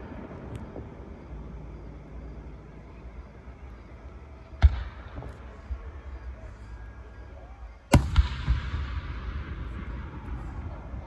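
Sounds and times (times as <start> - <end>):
fireworks bangs: 0.0 - 11.0
rumble of fireworks: 0.0 - 11.0.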